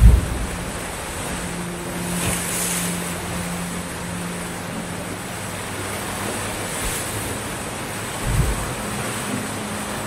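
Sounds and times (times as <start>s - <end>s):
surf hissing on beach: 0.0s - 10.0s
wave breaking: 0.0s - 10.0s.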